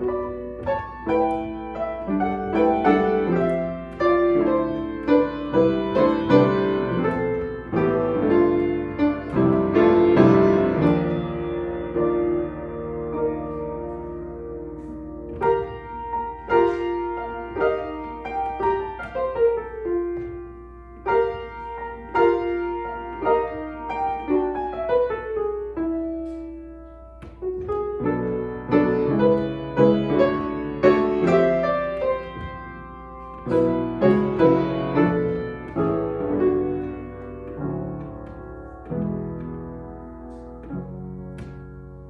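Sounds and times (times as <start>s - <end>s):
piano playing carol arrangement: 0.0s - 42.0s.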